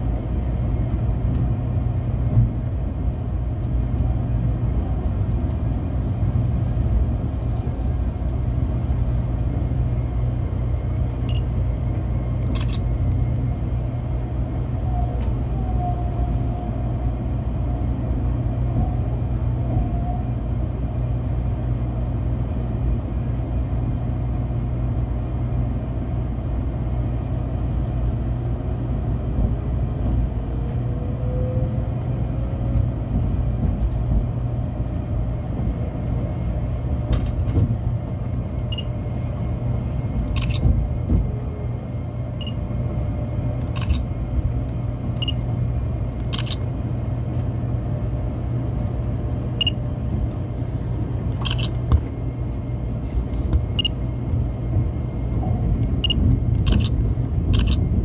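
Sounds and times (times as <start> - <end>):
train car rumble: 0.0 - 58.0.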